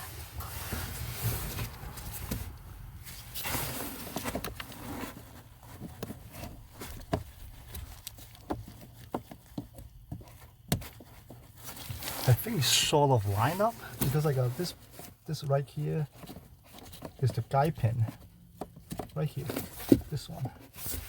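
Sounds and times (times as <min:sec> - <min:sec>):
hands rustling and scraping: 0:00.0 - 0:21.0.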